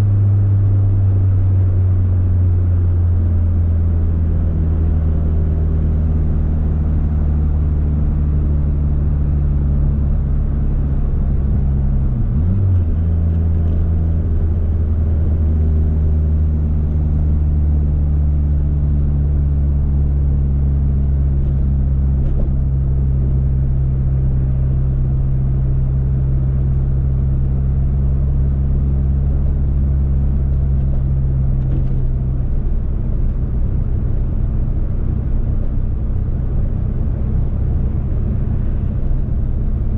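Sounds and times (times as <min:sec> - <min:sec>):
car engine cruising: 0:00.0 - 0:39.9.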